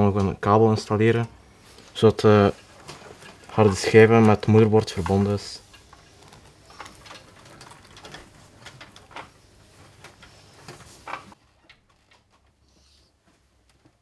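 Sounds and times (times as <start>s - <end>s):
cables rustling: 0.0s - 14.0s.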